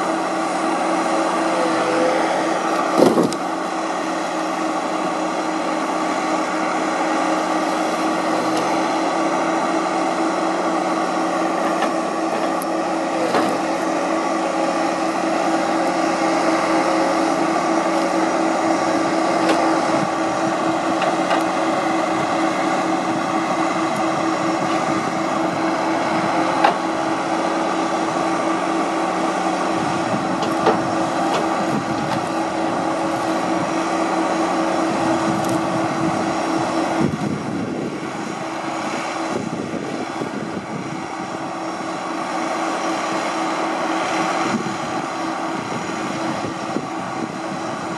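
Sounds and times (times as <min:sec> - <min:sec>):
diesel engine and hydraulics whining: 0:00.0 - 0:47.9.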